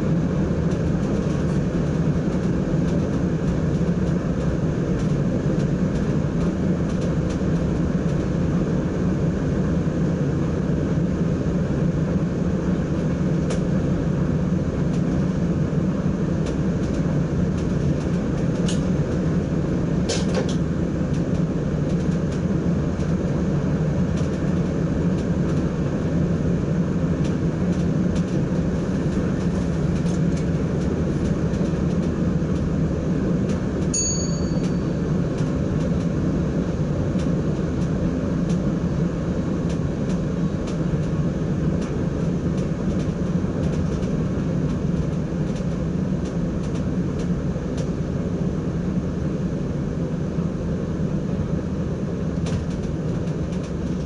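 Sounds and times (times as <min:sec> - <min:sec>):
train cab running noise: 0:00.0 - 0:50.4, 0:51.4 - 0:54.0.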